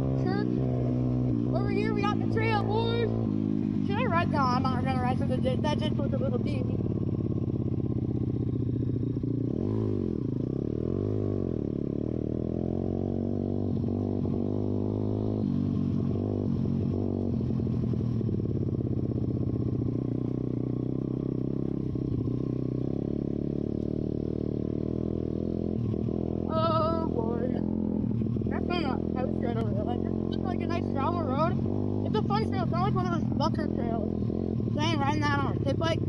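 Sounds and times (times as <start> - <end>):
pit bike engine revving: 0.0 - 36.0.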